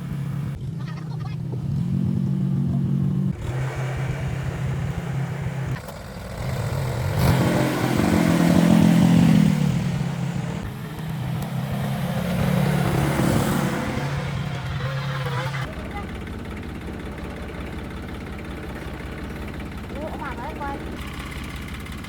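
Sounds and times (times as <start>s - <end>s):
old tractor engine revving: 0.0s - 22.0s.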